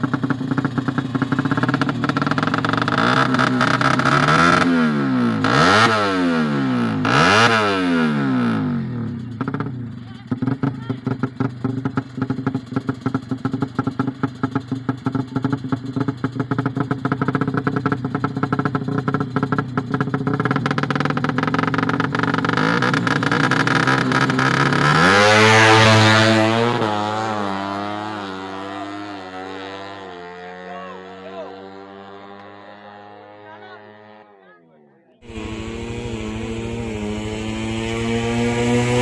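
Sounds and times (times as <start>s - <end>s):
motorcycle accelerating hard: 0.0s - 34.4s, 35.2s - 39.0s
small motorcycle engines running: 0.0s - 34.4s, 35.2s - 39.0s.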